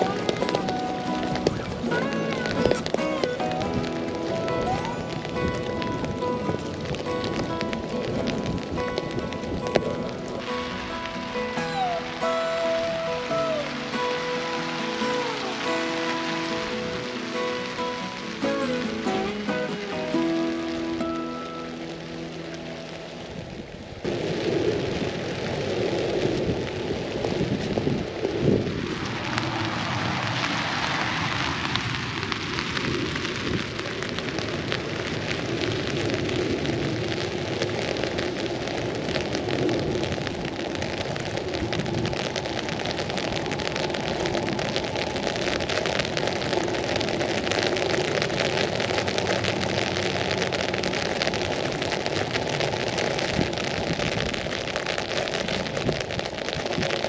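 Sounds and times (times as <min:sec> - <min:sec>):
rain pattering on umbrella: 0:00.0 - 0:57.0
tyre hiss on wet street: 0:00.0 - 0:57.0.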